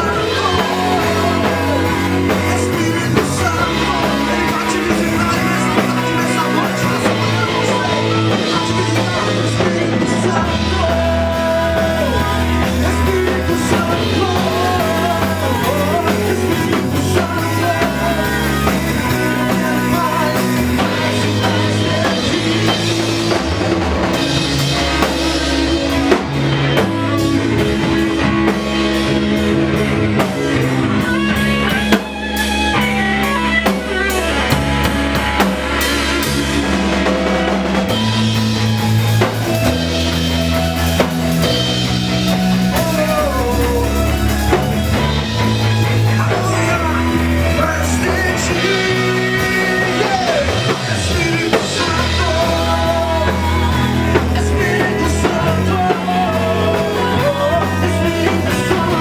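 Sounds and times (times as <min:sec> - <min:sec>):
person singing: 0:00.0 - 0:29.0, 0:35.8 - 0:59.0
bass guitar: 0:00.0 - 0:59.0
drum kit: 0:00.0 - 0:59.0
electric guitar: 0:00.0 - 0:59.0
worship band playing: 0:00.0 - 0:59.0.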